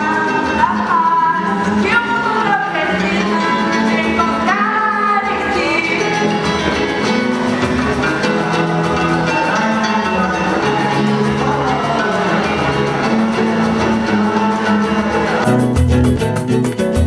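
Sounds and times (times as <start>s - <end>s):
person singing: 0.0s - 15.7s
instrumental backing music: 0.0s - 17.0s.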